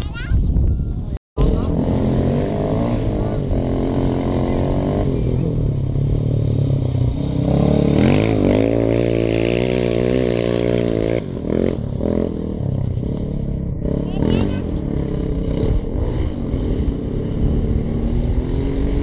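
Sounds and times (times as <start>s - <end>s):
motorcycle engine revving: 1.4s - 19.0s.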